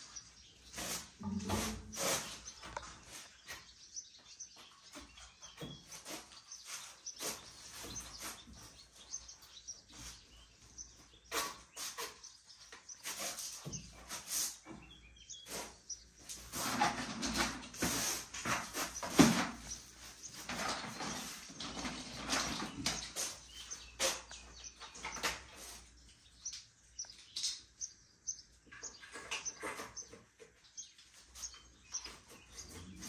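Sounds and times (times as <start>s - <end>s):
birds chirping faintly: 0.0s - 33.0s.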